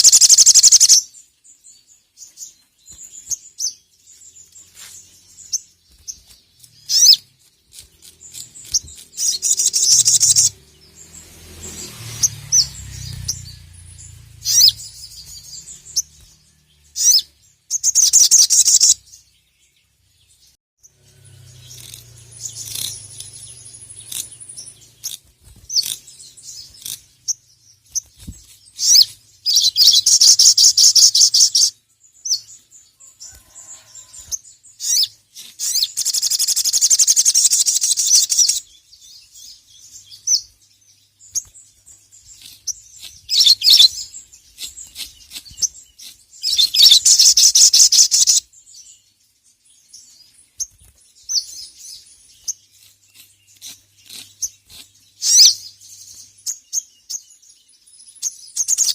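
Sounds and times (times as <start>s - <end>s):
bird chirping and trilling: 0.0s - 58.9s.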